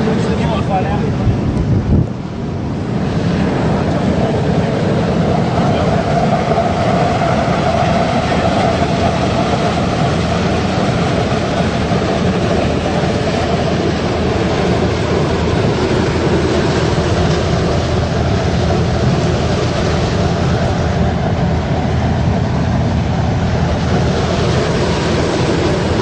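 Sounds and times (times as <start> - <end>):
burner blower fan rushing: 0.0 - 26.0.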